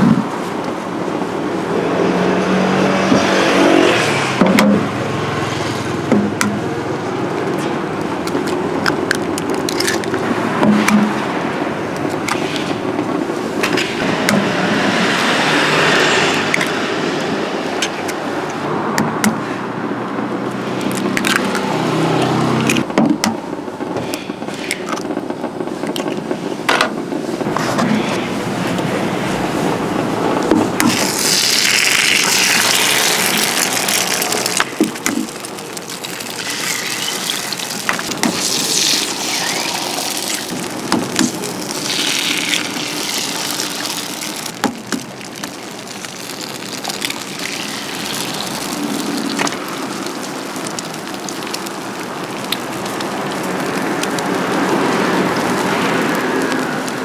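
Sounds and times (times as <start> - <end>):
griddle hissing and sizzling: 0.0 - 18.8, 19.4 - 57.0.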